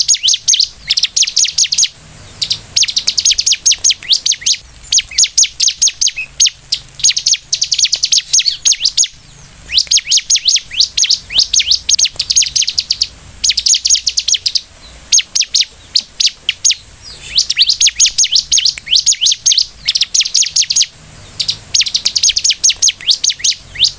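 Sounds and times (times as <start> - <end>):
bird singing high sharp notes: 0.0 - 23.9.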